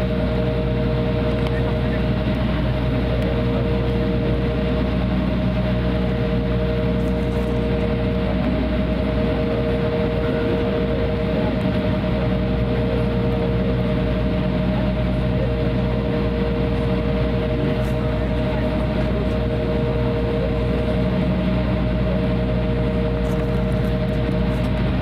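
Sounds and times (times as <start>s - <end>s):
jet engines humming in cabin: 0.0s - 25.0s.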